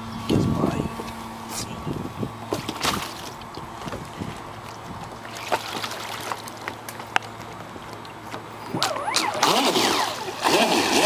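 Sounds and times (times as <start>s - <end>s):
water splashing against a hull: 1.0s - 11.0s.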